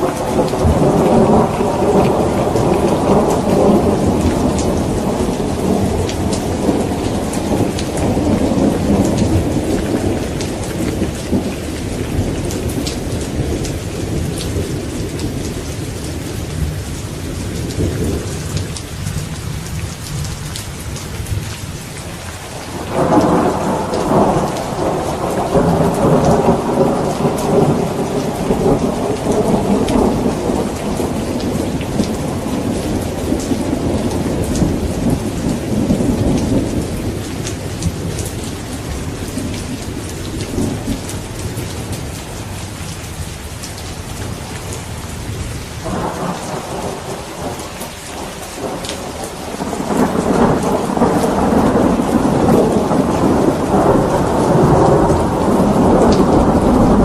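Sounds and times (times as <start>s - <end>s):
rolling thunder: 0.0s - 18.8s, 22.6s - 42.2s, 44.2s - 57.0s
heavy rain: 0.0s - 57.0s.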